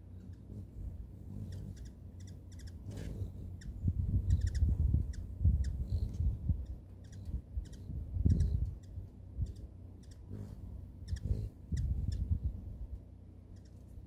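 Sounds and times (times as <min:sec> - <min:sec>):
hummingbird chip notes: 0:00.0 - 0:14.0
low rumble: 0:00.0 - 0:14.0.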